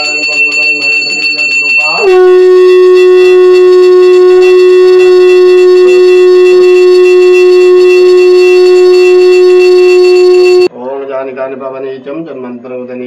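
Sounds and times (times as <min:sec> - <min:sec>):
conch shell blown: 0:00.0 - 0:10.7.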